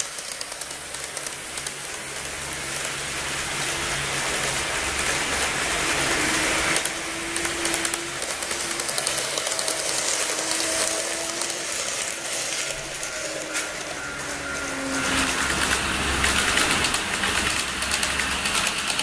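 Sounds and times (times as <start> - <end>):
model train motor whine: 0.0 - 19.0
wheels clicking over rail joints: 0.0 - 19.0.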